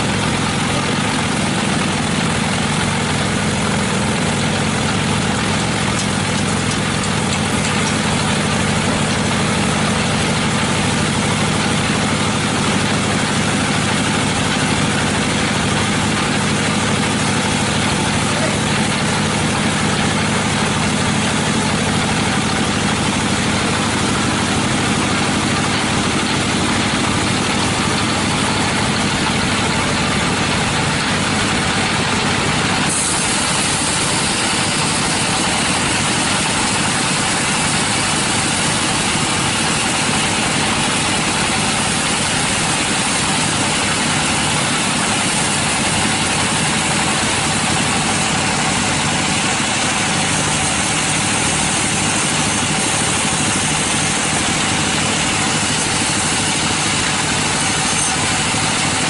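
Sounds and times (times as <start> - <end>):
broad steady rush: 0.0 - 59.0
saw running steadily: 0.0 - 59.0.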